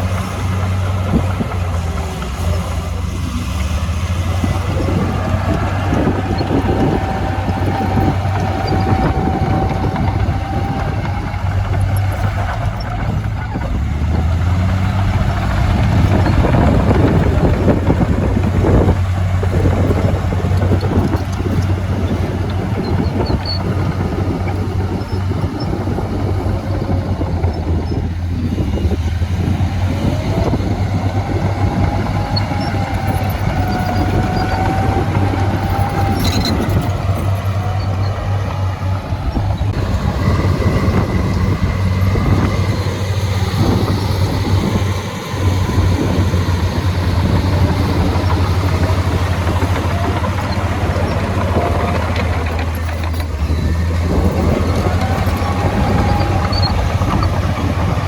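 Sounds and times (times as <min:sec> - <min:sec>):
heavy diesel machinery clattering: 0:00.0 - 0:58.0.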